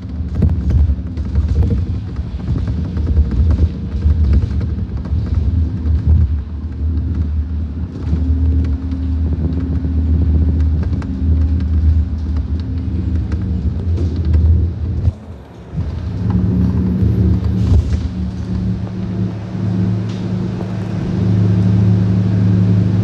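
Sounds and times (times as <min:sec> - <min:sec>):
bus diesel engine droning: 0:00.0 - 0:23.0
interior rattles and clicks: 0:00.0 - 0:23.0.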